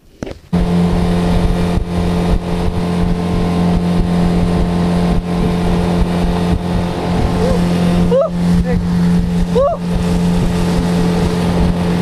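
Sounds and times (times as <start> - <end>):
wind buffeting microphone: 0.1 - 12.0
outboard motor droning: 0.5 - 12.0.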